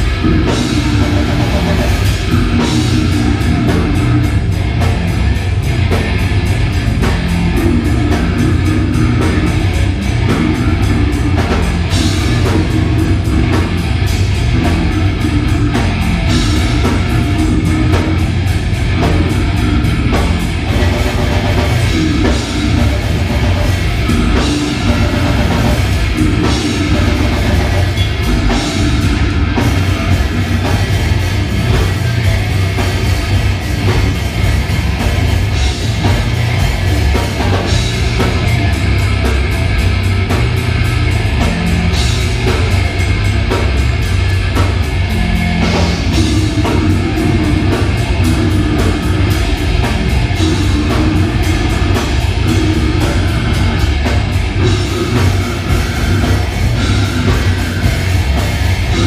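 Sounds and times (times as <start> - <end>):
distorted electric guitar: 0.0 - 59.0
pounding drum kit: 0.0 - 59.0.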